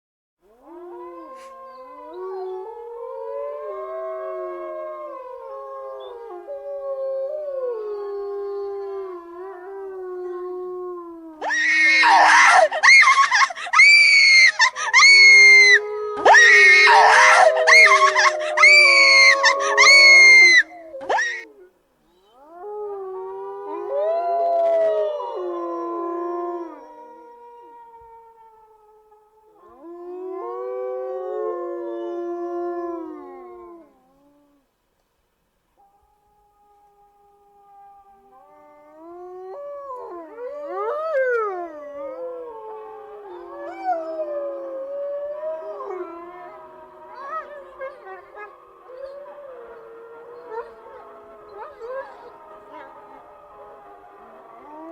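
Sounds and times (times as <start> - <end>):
overlapping long howls: 0.5 - 21.7, 22.4 - 34.6, 35.8 - 54.9.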